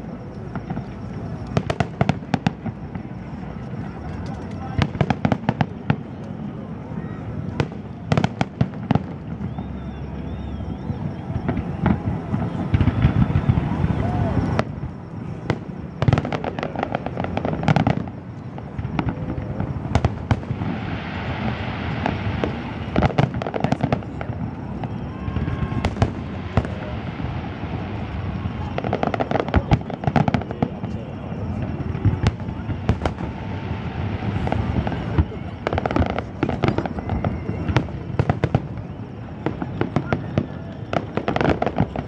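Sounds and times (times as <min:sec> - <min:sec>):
firework bangs: 0:00.0 - 0:42.0
rapid firework crackling: 0:07.5 - 0:42.0.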